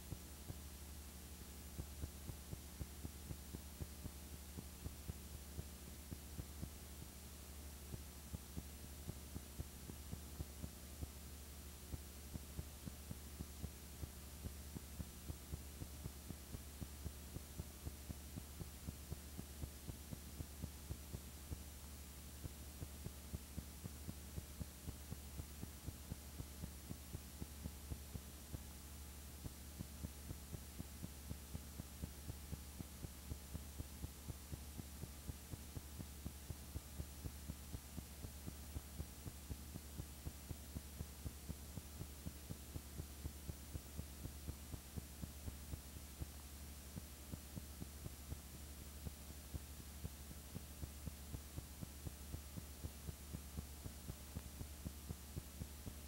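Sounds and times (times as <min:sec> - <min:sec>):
faint regular ticks: 0:00.0 - 0:56.0
low electrical hum: 0:00.0 - 0:56.0.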